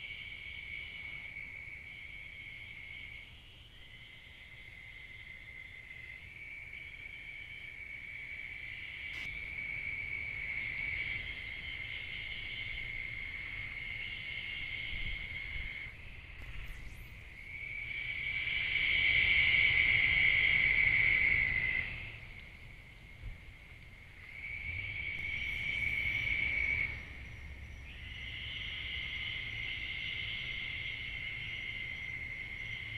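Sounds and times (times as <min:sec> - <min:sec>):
insects trilling: 0:00.0 - 0:32.9.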